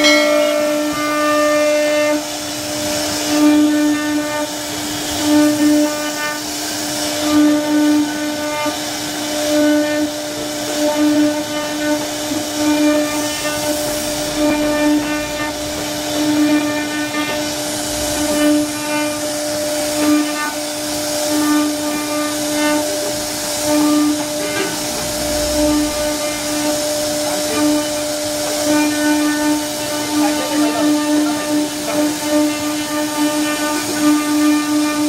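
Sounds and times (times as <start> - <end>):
hiss of cutting wood: 0.0 - 35.0
router spindle high whine: 0.0 - 35.0.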